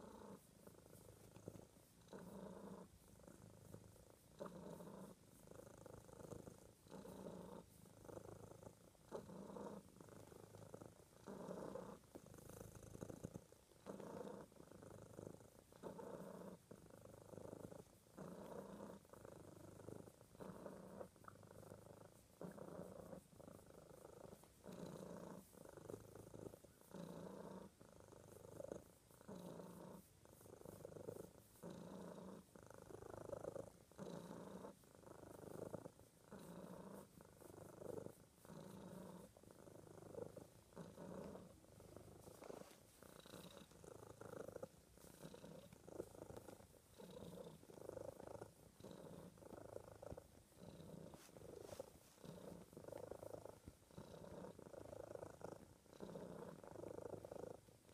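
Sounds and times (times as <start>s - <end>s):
cat purring: 0.0s - 57.9s.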